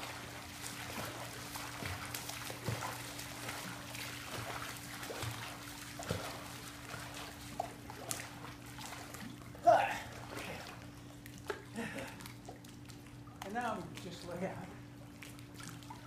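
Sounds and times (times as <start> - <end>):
pool water sloshing and trickling: 0.0 - 16.0
steady low hum: 0.0 - 16.0
swimmer splashing: 0.0 - 16.0.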